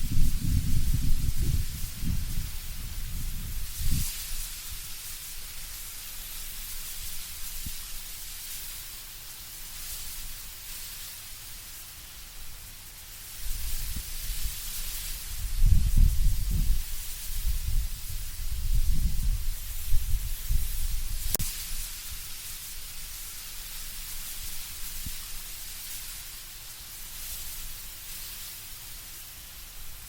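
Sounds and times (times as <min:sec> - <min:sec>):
wind gusting through trees: 0:00.0 - 0:30.0.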